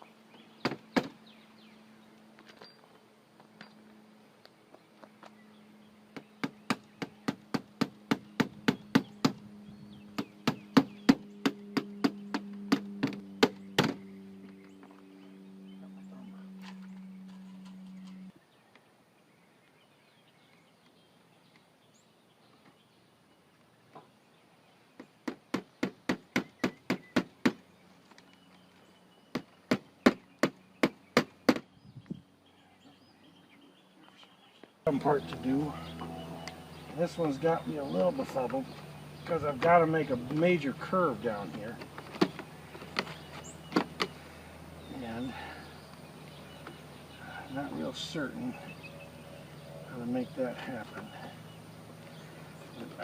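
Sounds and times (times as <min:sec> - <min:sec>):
steady low hum: 0:00.0 - 0:22.1, 0:24.2 - 0:53.0.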